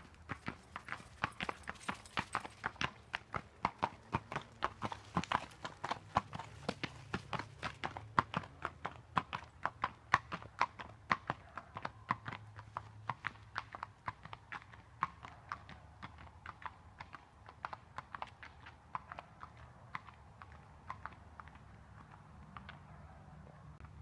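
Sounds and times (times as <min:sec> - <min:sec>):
horse hooves clip-clopping on dirt: 0:00.0 - 0:23.2.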